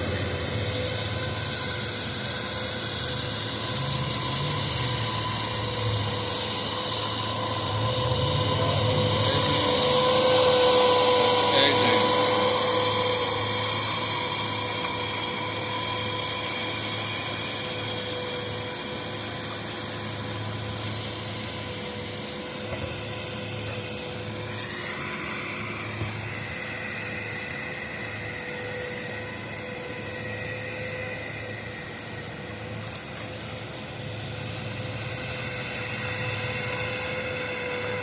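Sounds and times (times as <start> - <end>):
machine whining: 0.0 - 38.0.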